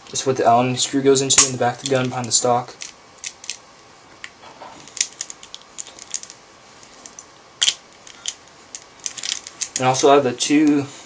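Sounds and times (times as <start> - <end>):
small parts clicking and tapping: 1.4 - 3.6, 4.2 - 10.8.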